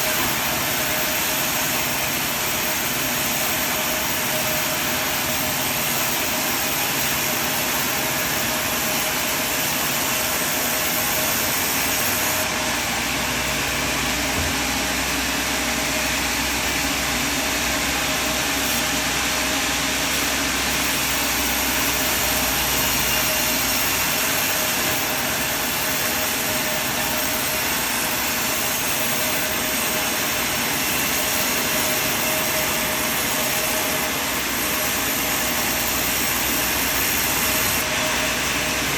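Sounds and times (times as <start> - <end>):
sawmill machine drone: 0.0 - 38.9.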